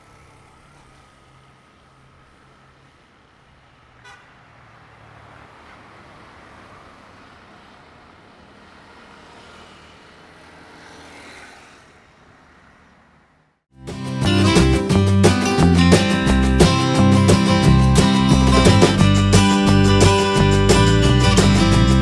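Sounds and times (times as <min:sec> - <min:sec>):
vehicle passing: 0:00.0 - 0:22.0.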